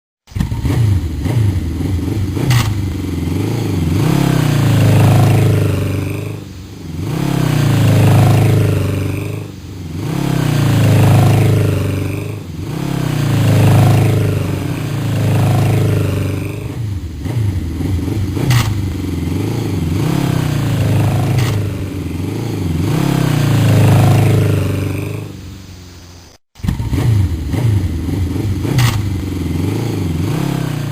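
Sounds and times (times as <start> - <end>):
motorcycle engine revving: 0.3 - 30.9.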